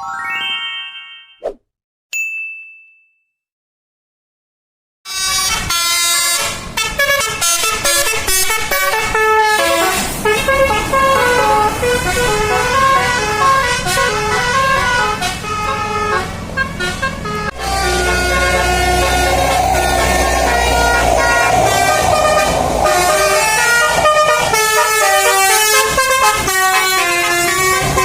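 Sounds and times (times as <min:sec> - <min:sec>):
musical air horn tune: 0:05.1 - 0:28.0.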